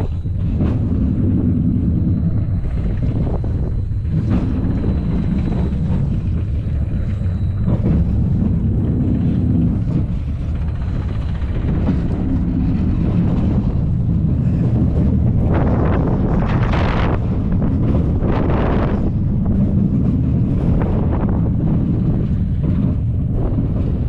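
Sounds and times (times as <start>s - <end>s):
roller coaster wheels rumbling: 0.0s - 24.0s
wind buffeting microphone: 0.0s - 24.0s.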